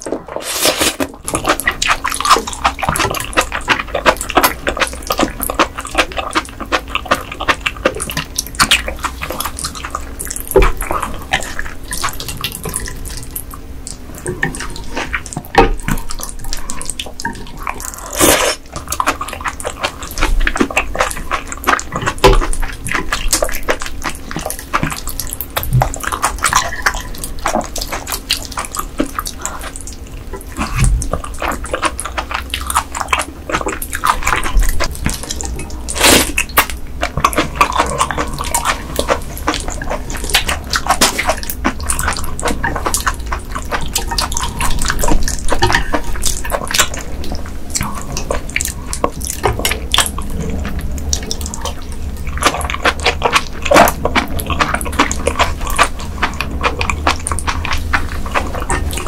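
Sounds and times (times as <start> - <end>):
wet chewing and mouth sounds: 0.0 - 59.0.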